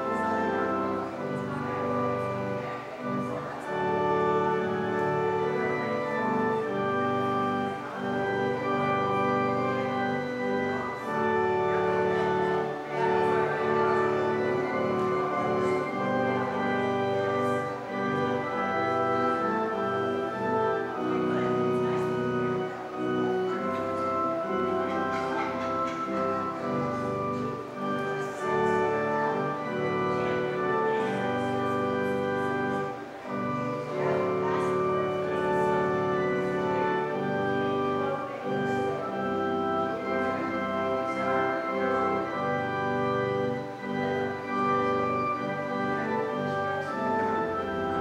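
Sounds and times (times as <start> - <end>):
organ music: 0.0 - 48.0.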